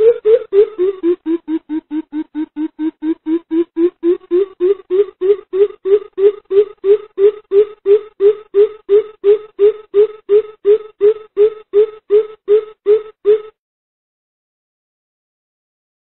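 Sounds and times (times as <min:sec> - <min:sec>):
bird low hoots: 0:00.0 - 0:13.6.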